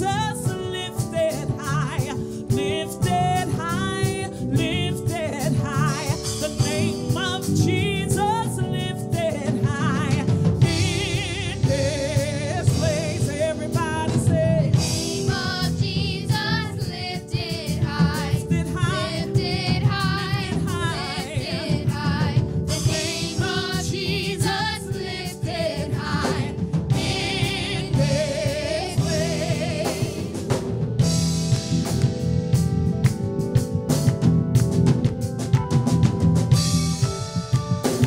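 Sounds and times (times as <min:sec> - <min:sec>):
woman singing gospel: 0:00.0 - 0:30.6
bass guitar: 0:00.0 - 0:38.0
drums: 0:00.0 - 0:38.0
keyboard chords: 0:00.0 - 0:38.0.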